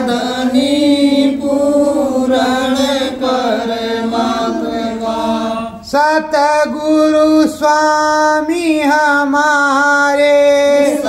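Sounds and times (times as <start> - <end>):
person singing devotional song: 0.0 - 11.0.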